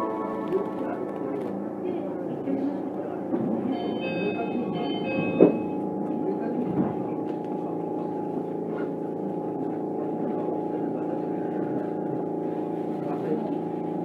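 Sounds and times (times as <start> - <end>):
monorail car humming drone: 0.0 - 14.0.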